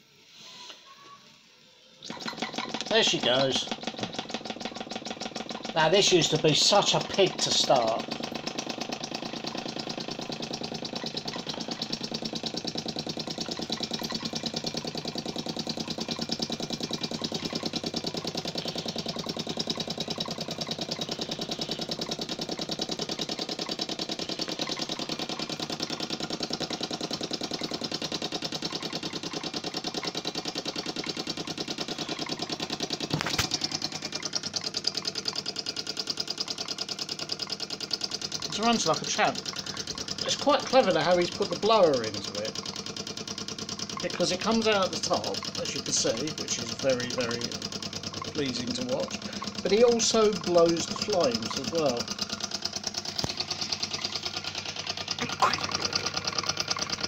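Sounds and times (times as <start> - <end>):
model steam engine chuffing: 2.0 - 57.0.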